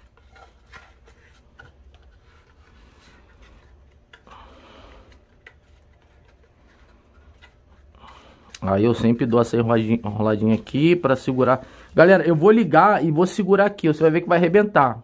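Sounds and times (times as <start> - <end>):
hands handling kite line: 0.0 - 12.5
low room hum: 0.0 - 15.0.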